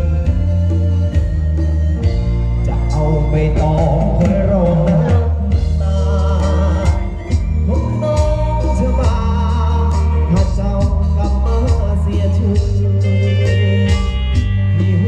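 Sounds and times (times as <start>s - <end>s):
person singing: 0.0s - 1.3s, 2.6s - 15.0s
band music with heavy bass: 0.0s - 15.0s
electric guitar: 0.0s - 15.0s.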